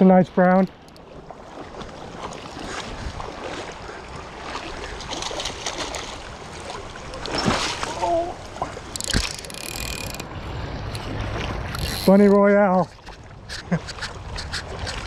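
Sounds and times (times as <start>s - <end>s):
shallow river running: 0.0s - 15.0s
water splashing: 0.0s - 15.0s.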